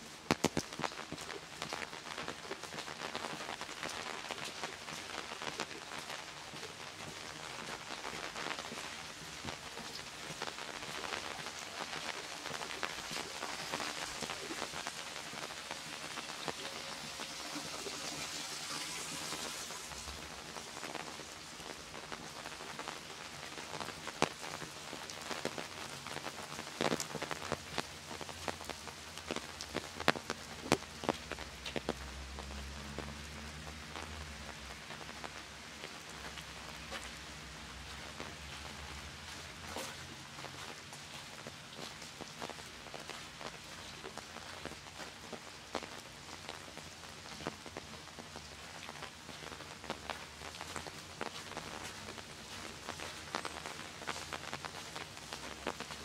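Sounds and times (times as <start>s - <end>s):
rain on pavement and foliage: 0.0s - 56.0s
raindrops tapping: 0.0s - 56.0s.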